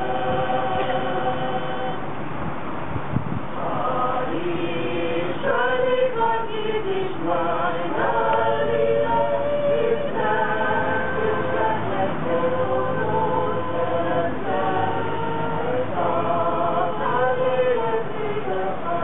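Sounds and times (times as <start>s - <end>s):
mixed choir singing: 0.0s - 2.3s, 3.5s - 19.0s.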